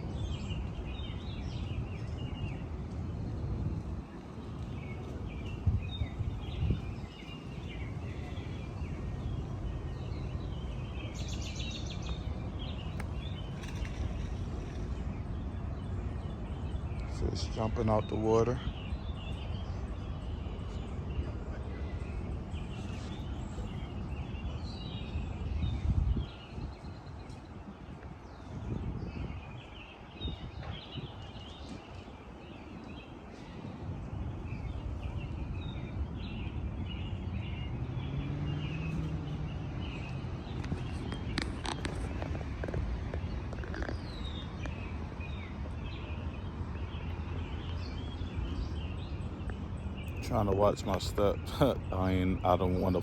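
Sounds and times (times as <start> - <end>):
birds chirping: 0.0 - 53.0
wind rumble on microphone: 0.0 - 53.0.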